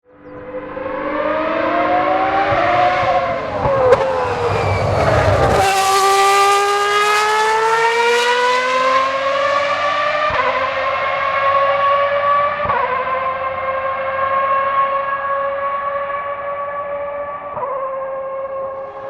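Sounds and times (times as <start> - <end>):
race car engine accelerating: 0.2 - 19.0.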